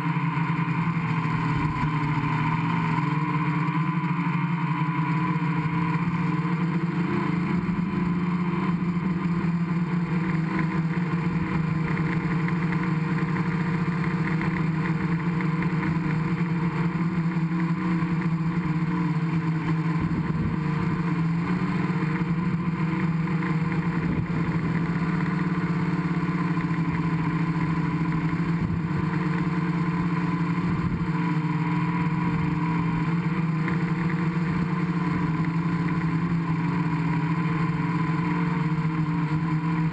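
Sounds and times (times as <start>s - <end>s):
drone motors humming and whining: 0.0s - 39.9s.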